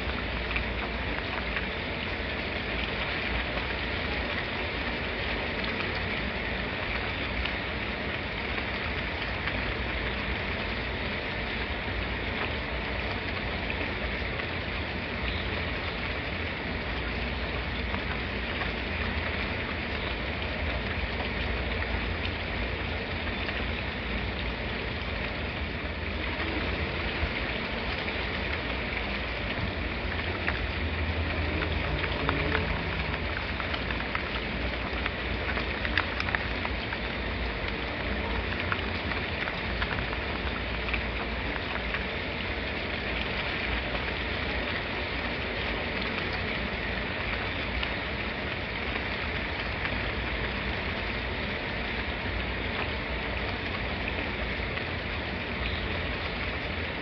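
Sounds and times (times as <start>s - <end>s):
rain drop taps: 0.0s - 57.0s
steady rain falling: 0.0s - 57.0s.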